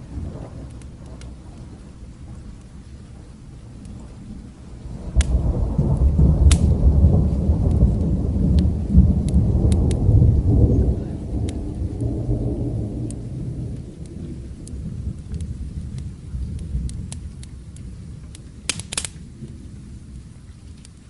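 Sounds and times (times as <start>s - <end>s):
fire crackling: 0.0s - 21.0s
rain hissing: 0.0s - 21.0s
thunder rumbling: 0.0s - 21.0s.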